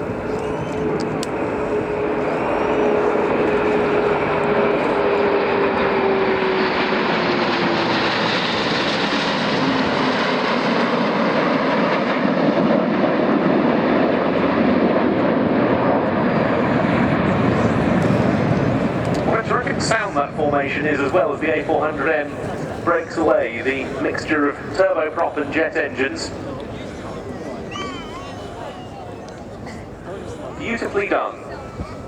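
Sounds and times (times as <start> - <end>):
turboprop and jet engines flying past: 0.0 - 32.0.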